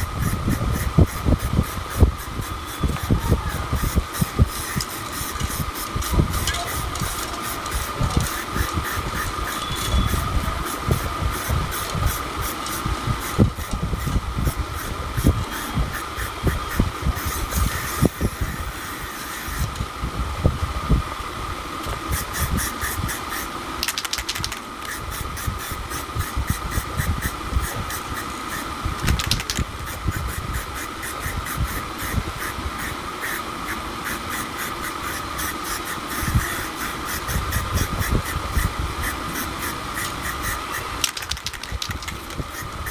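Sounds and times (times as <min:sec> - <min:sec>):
spray paint can hissing: 0:00.0 - 0:19.8, 0:21.9 - 0:42.9
mechanical hum: 0:00.0 - 0:42.9.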